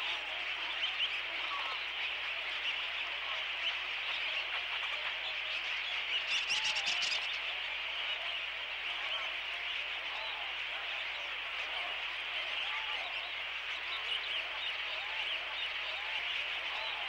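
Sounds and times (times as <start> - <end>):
flock of shorebirds calling: 0.0 - 17.0.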